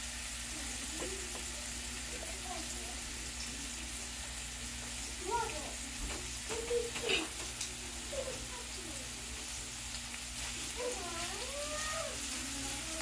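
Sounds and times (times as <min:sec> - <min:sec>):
meat sizzling in a frying pan: 0:00.0 - 0:13.0
tongs moving in a pan: 0:00.0 - 0:13.0.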